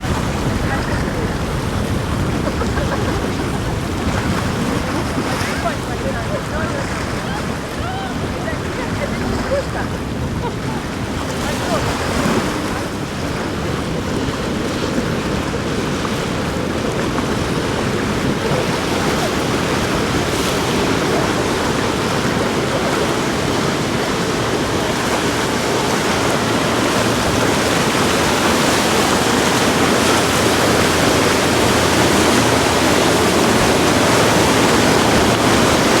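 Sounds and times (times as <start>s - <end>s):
surf rushing: 0.0s - 36.0s
wind: 0.0s - 36.0s.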